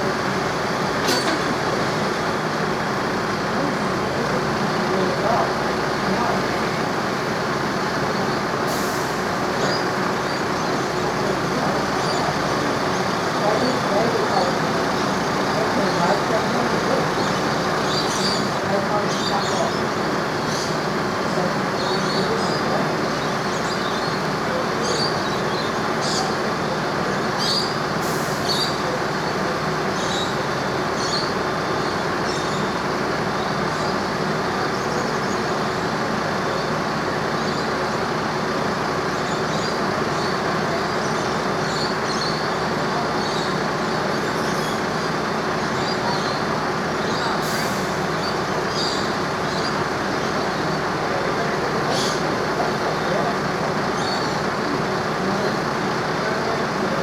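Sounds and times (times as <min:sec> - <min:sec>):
engine rumble: 0:00.0 - 0:57.0.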